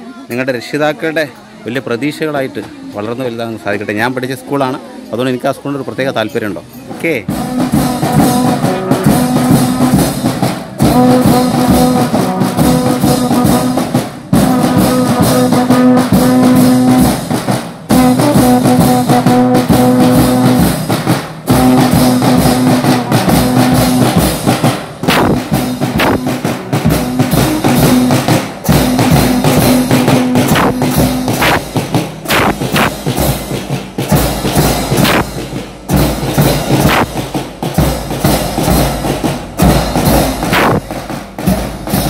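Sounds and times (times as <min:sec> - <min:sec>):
marching band playing: 0:06.0 - 0:42.0.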